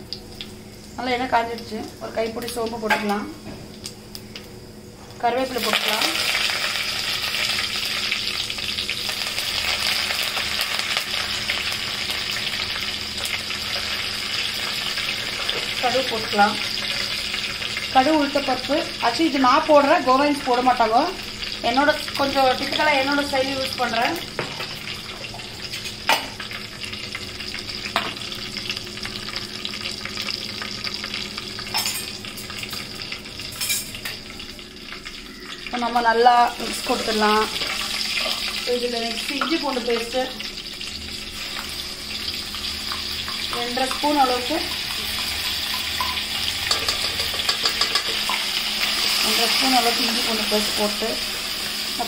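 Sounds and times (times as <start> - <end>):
leaves and seeds sizzling in oil: 0.0 - 52.0.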